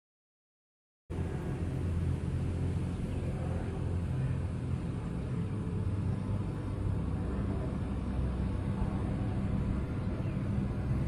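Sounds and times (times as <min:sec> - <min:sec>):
low rumble: 0:01.1 - 0:11.0.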